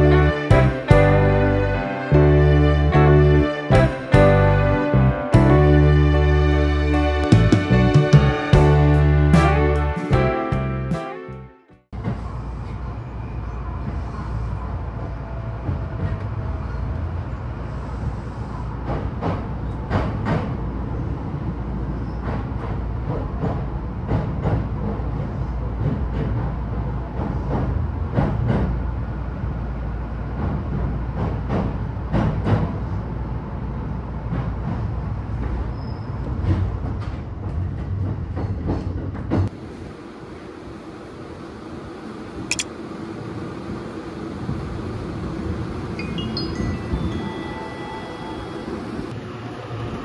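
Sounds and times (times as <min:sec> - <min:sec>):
train low rumble: 0:00.0 - 0:50.0.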